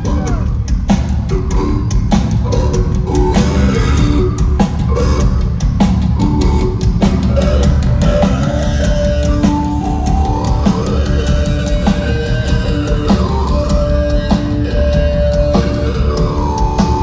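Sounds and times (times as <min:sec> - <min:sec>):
electric guitars: 0:00.0 - 0:17.0
live rock band: 0:00.0 - 0:17.0
person singing into microphone: 0:00.0 - 0:17.0.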